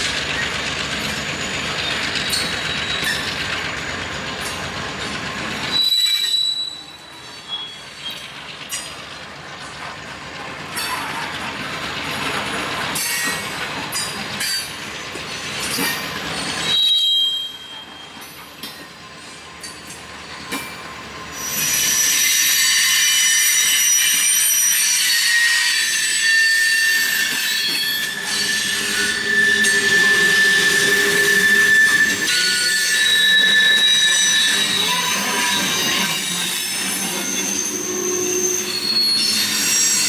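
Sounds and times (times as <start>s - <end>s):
freight cars rolling on track: 0.0s - 40.0s
wheels squealing on rails: 0.0s - 40.0s.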